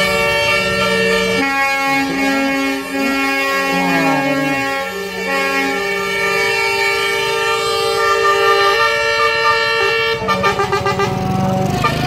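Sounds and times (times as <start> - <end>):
multi-tone air horns: 0.0 - 12.0.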